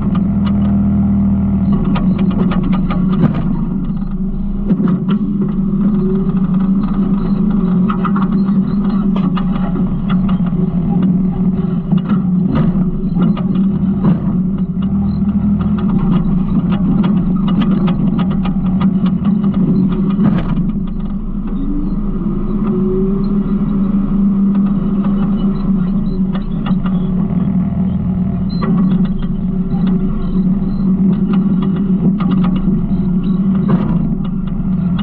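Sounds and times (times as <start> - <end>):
rising whine: 0.0 - 34.3
garbage truck engine running: 0.0 - 35.0
knocks and rattles: 0.0 - 35.0.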